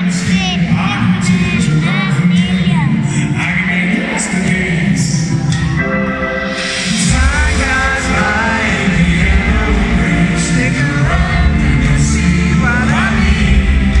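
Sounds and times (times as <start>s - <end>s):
live pop-rock band: 0.0s - 14.0s
man singing lead vocal: 0.0s - 14.0s.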